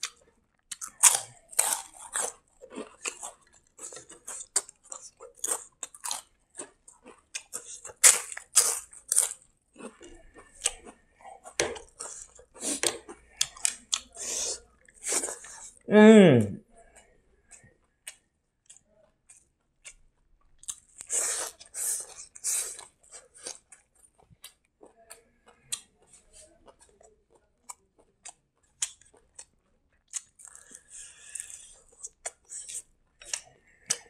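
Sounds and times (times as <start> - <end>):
man chewing with wet clicks: 0.0 - 15.8, 16.8 - 34.0.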